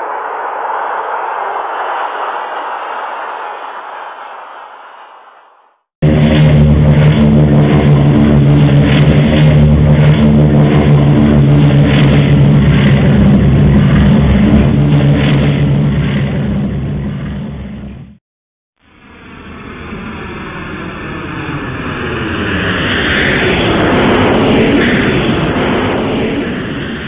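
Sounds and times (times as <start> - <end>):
propeller engines droning: 0.0 - 18.2, 19.1 - 27.0.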